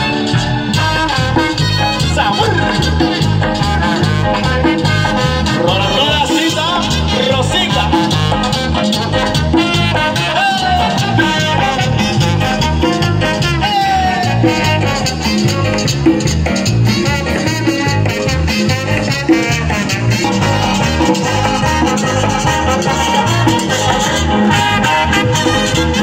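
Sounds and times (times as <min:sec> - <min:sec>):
latin dance band playing: 0:00.0 - 0:26.0.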